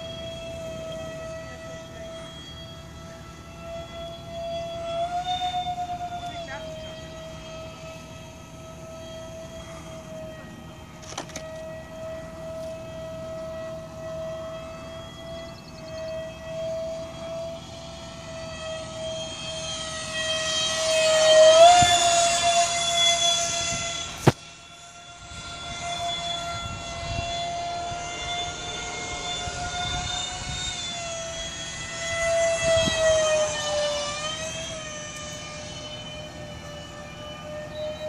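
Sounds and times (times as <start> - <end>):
model jet fans whining: 0.0 - 38.0.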